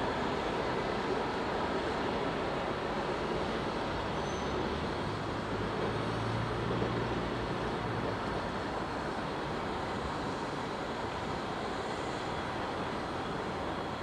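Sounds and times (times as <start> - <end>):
train running noise: 0.0 - 14.0.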